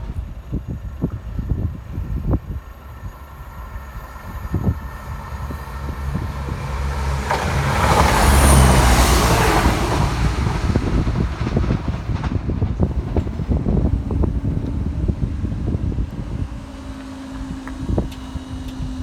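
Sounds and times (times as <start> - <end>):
diesel train passing: 0.0 - 19.0
wind buffeting microphone: 0.0 - 19.0.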